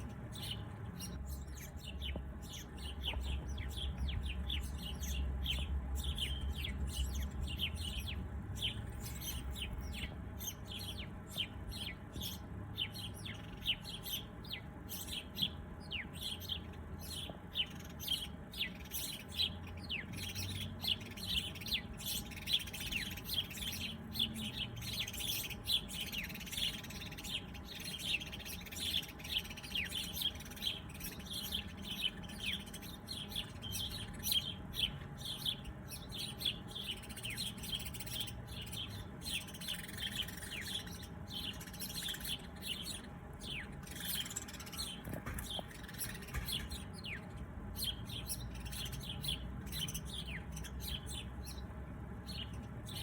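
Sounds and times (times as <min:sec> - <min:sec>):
low background rumble: 0:00.0 - 0:53.0
small birds chirping: 0:00.0 - 0:53.0.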